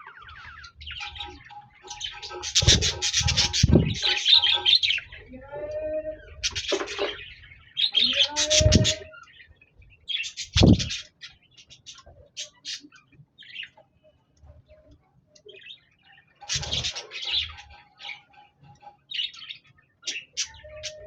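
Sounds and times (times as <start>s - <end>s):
budgerigars chirping and warbling: 0.0s - 21.0s.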